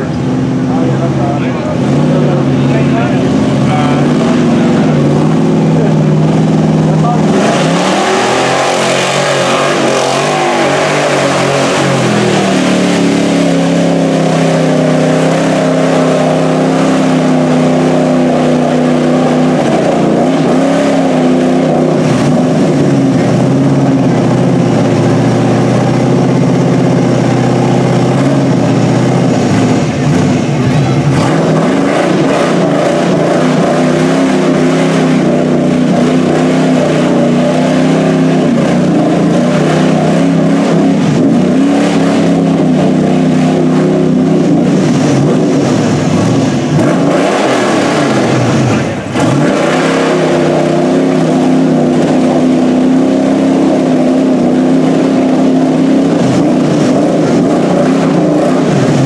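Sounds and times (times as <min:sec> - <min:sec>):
truck engine revving: 0:00.0 - 0:59.0
truck plowing through mud and water: 0:00.0 - 0:59.0.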